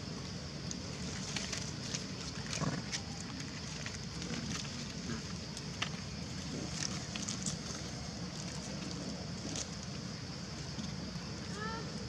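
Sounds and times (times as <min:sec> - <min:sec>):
rustling of dry leaf litter: 0:00.6 - 0:11.8.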